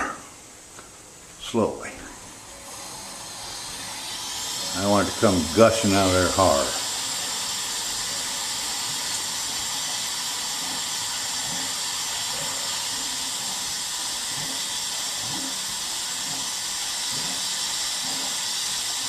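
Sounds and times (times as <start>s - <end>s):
water flowing with hiss: 1.4s - 19.0s.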